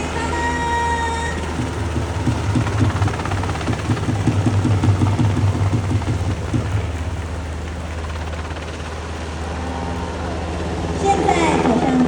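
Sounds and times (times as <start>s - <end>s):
helicopter rotor beating: 0.0s - 12.0s
steady low hum: 0.0s - 12.0s.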